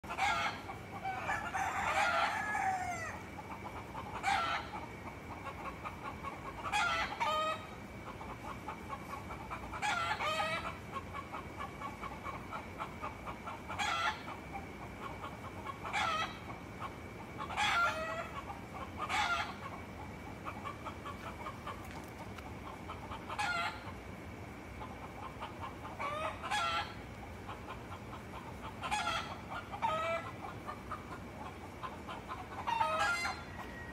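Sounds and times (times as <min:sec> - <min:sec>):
roosters crowing: 0:00.1 - 0:12.6, 0:13.3 - 0:24.0, 0:24.8 - 0:33.9.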